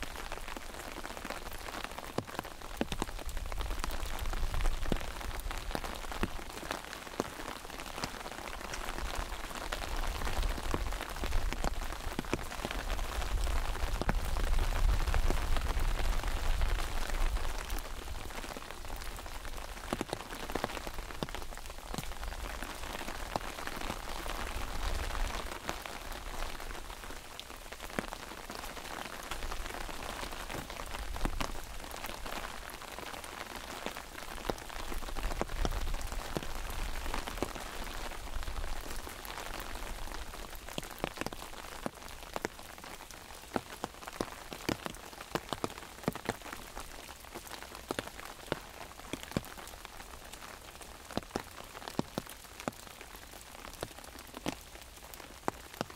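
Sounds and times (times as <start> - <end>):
hiss of rain: 0.0 - 55.9
rain drops ticking on umbrella: 0.0 - 55.9.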